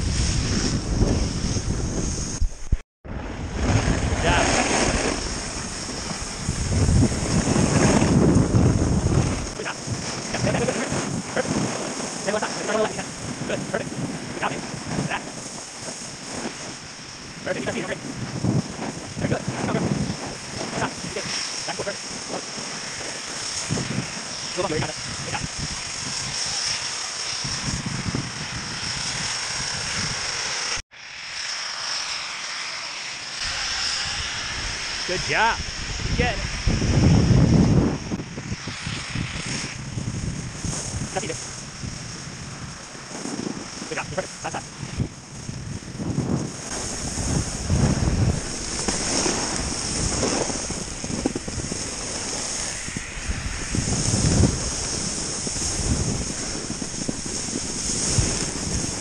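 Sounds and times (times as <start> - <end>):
wind rushing on microphone: 0.0 - 30.8, 33.4 - 59.0
skis hissing over snow: 0.0 - 59.0.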